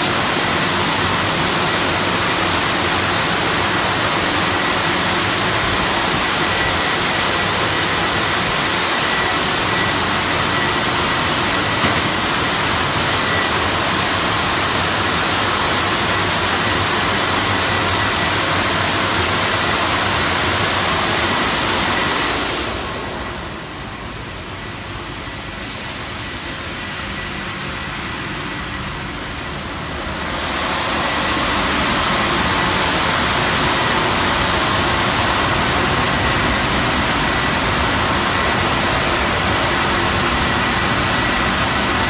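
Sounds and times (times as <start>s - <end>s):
faint thin steady whine: 0.0s - 42.0s.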